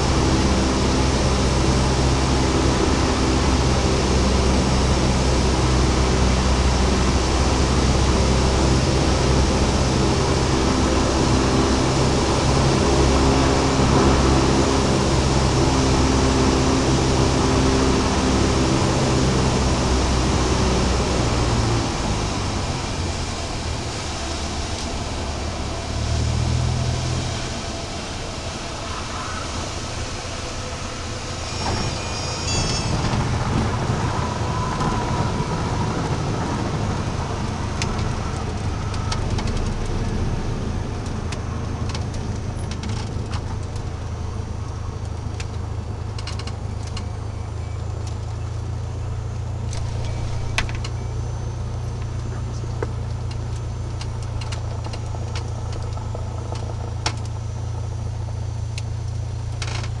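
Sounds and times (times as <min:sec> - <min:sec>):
propeller engine drone: 0:00.0 - 1:00.0.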